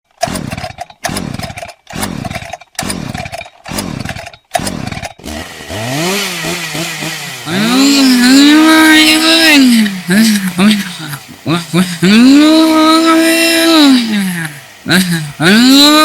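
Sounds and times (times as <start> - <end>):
chainsaw-like sputtering drone: 0.1 - 16.0.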